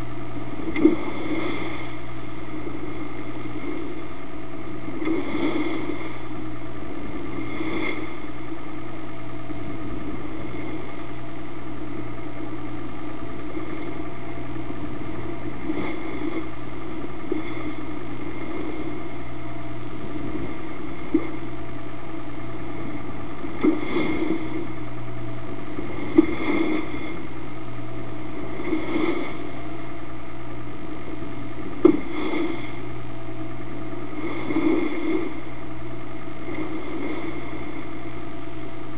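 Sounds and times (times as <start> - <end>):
boat engine droning: 0.0 - 38.9
water rushing over bow: 0.0 - 38.9.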